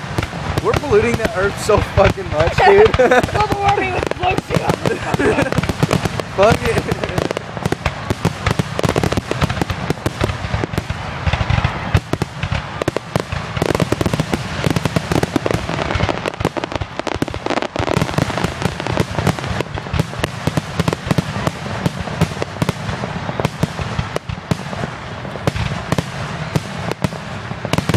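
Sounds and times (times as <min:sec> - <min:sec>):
fireworks bangs and crackles: 0:00.0 - 0:27.9
rumble of firework booms: 0:00.0 - 0:27.9.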